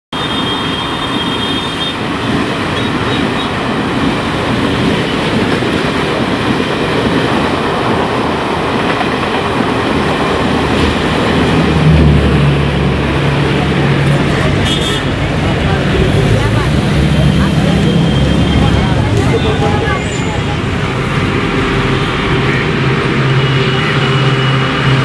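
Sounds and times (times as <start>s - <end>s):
train wheels rumbling on rails: 0.2s - 25.0s.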